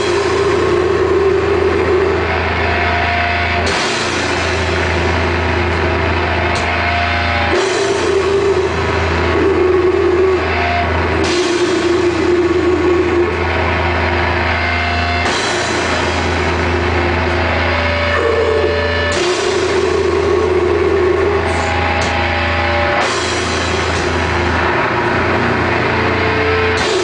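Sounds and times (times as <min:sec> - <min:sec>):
drums: 0:00.0 - 0:27.0
heavily distorted guitar and bass riff: 0:00.0 - 0:27.0
metal band playing live: 0:00.0 - 0:27.0.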